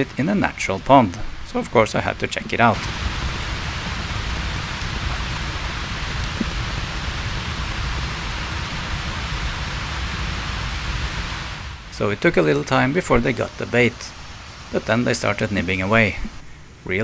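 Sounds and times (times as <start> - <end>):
rain-like hiss: 0.0 - 17.0.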